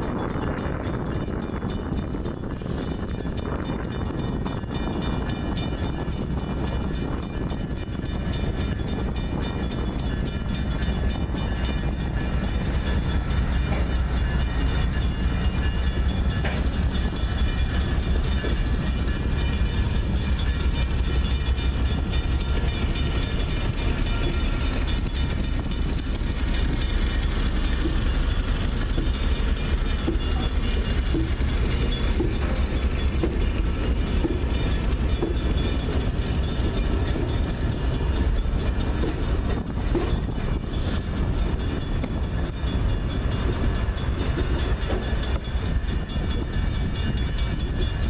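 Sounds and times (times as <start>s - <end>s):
railcar wheels rumbling on rails: 0.0s - 48.0s.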